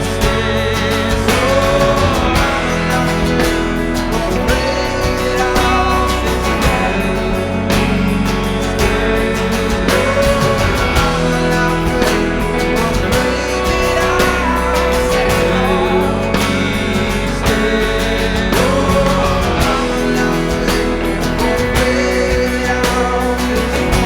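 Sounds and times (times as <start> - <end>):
live rock band instrumental: 0.0 - 24.0.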